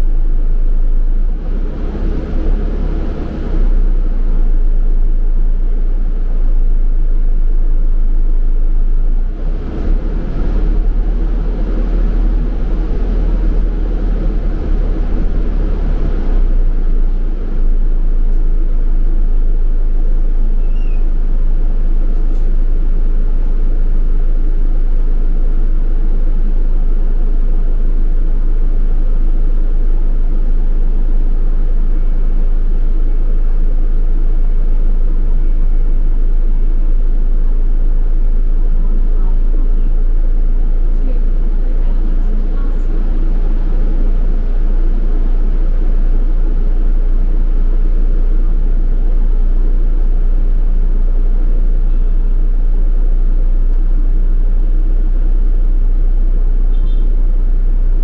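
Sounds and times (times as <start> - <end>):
bus engine droning: 0.0 - 58.0
road and tyre noise: 0.0 - 58.0.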